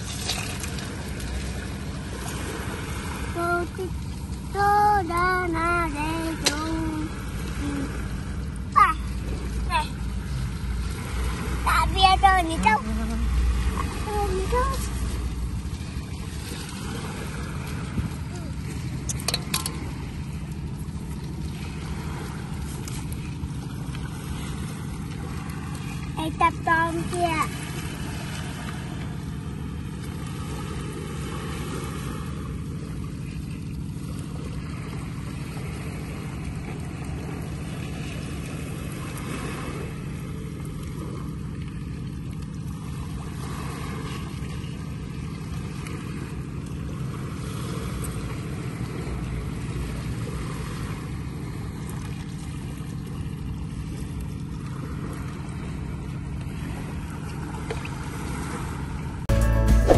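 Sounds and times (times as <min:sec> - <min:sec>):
boat motor humming: 0:00.0 - 0:59.9
water noise: 0:00.0 - 0:59.9.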